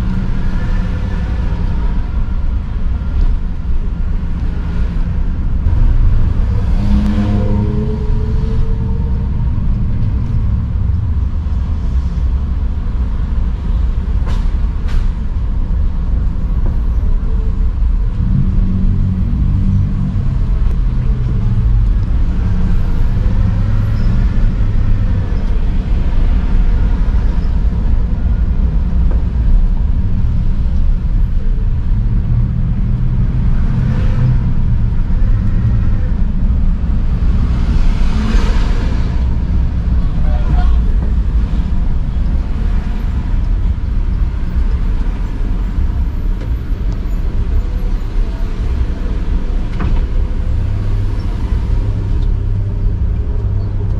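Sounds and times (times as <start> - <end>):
passing cars and buses: 0.0 - 53.9.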